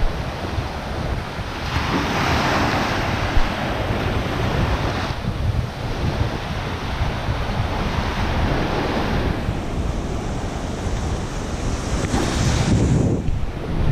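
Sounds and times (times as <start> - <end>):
small waves washing on sand: 0.0 - 13.9
wind rumbling on microphone: 0.0 - 13.9.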